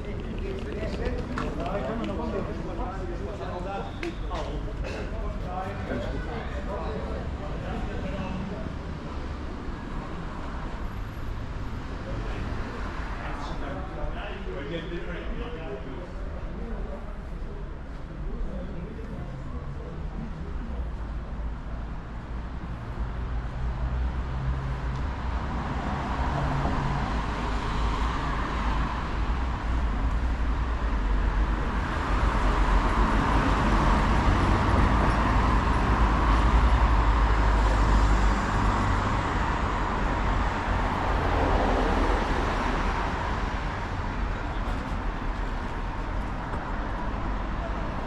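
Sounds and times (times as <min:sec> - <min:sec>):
vehicle engine rumble: 0:00.0 - 0:14.1, 0:19.8 - 0:48.0.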